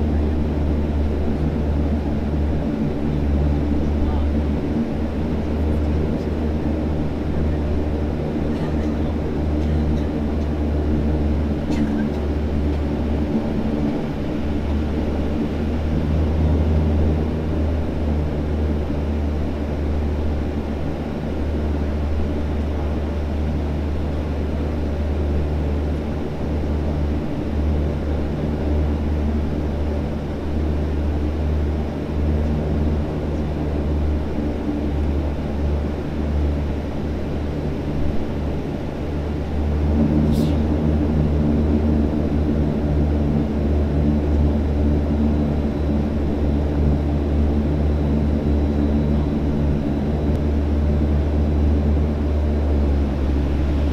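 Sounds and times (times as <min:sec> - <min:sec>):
turboprop engine droning: 0:00.0 - 0:53.9.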